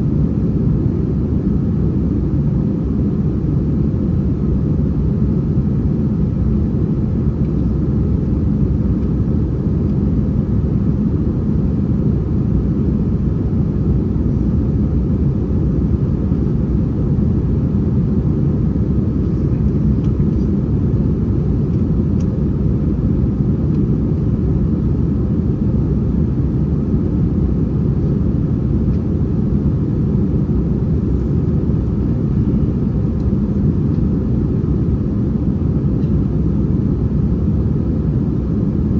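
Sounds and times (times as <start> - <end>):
airliner cabin engine roar: 0.0 - 38.9.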